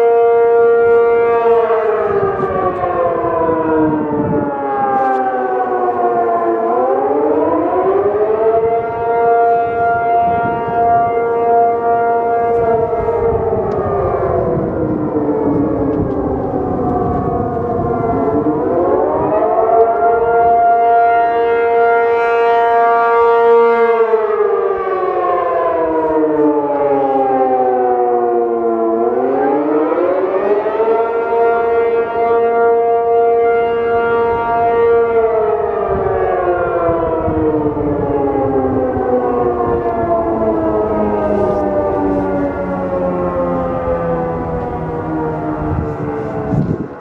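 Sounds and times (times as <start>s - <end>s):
two-tone warning siren wail: 0.0s - 47.0s.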